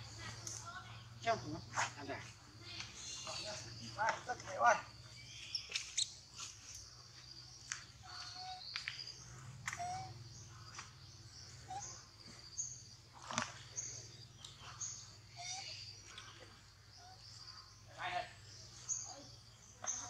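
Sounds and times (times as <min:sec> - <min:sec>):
faint insect drone: 0:00.0 - 0:20.0.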